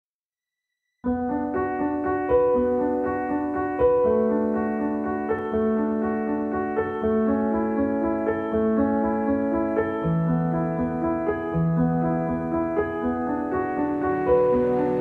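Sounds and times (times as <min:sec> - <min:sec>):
background piano music: 0:01.0 - 0:15.0.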